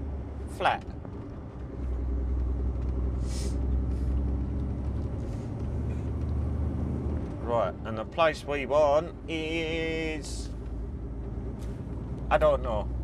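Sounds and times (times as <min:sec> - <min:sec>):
lorry diesel engine running: 0:00.0 - 0:13.0.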